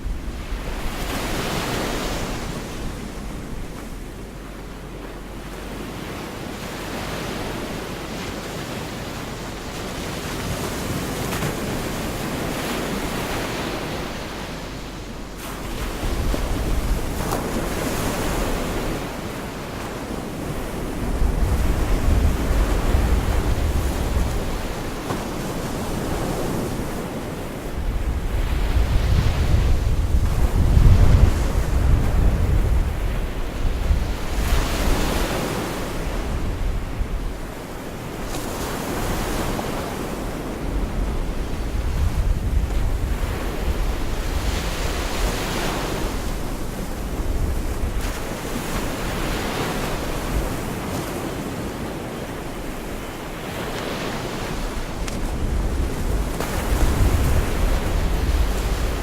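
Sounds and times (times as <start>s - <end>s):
wind buffeting microphone: 0.0s - 59.0s
surf breaking on beach: 5.1s - 59.0s.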